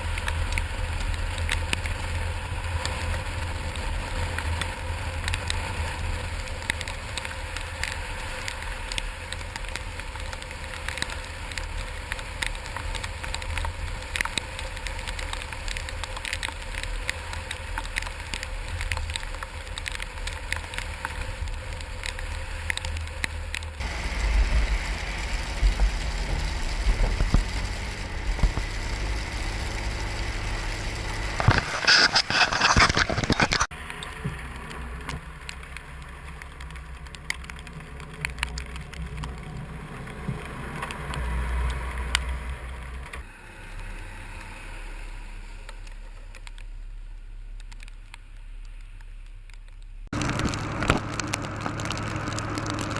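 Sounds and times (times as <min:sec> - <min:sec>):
low vehicle rumble: 0:00.0 - 0:31.6, 0:33.6 - 0:52.9
small crackles and ticks: 0:00.0 - 0:52.9.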